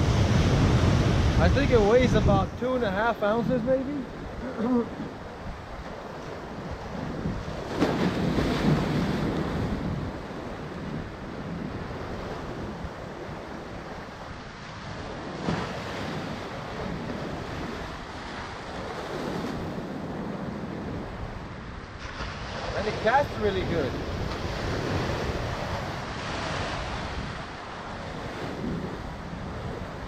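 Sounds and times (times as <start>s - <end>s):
ocean surf breaking over rocks: 0.0s - 30.0s
wind on microphone: 0.0s - 30.0s.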